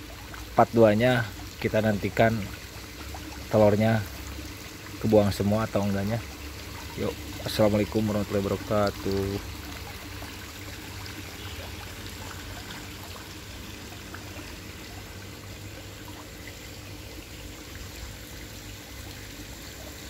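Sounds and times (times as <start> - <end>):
water pouring into pond: 0.0 - 20.0.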